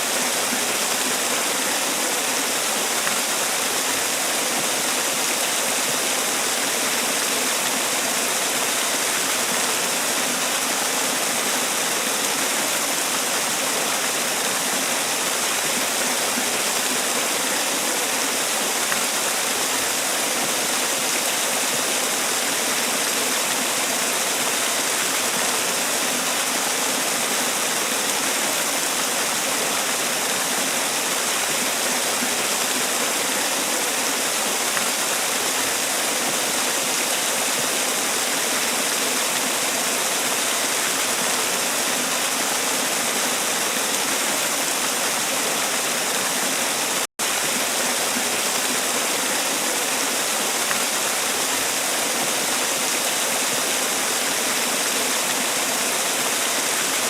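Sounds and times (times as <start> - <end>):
waterfall pouring and splashing: 0.0 - 57.0.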